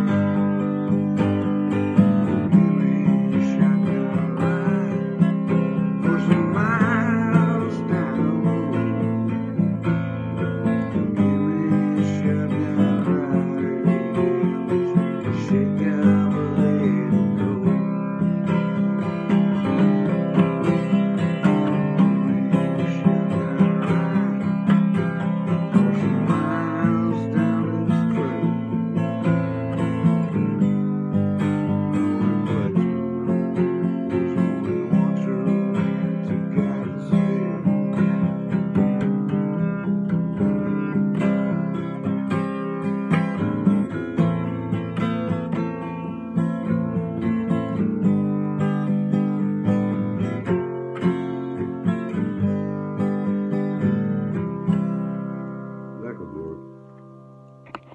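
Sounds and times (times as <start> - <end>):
acoustic guitar strummed and picked: 0.0 - 57.9.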